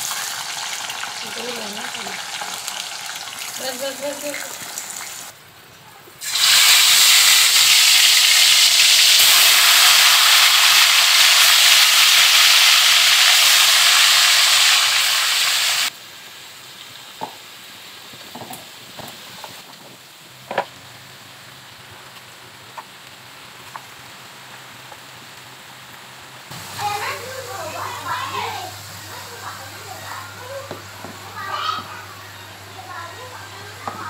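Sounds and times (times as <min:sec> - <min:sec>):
food sizzling in hot oil: 0:00.0 - 0:05.4, 0:06.2 - 0:34.0.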